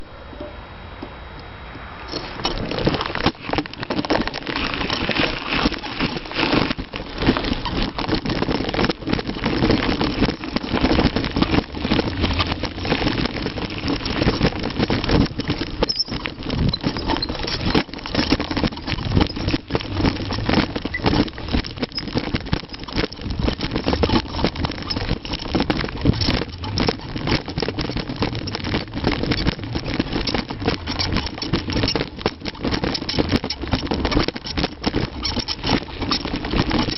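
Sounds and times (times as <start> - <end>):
bike riding rush: 0.0 - 36.9
bike rattling and knocking: 2.1 - 36.9.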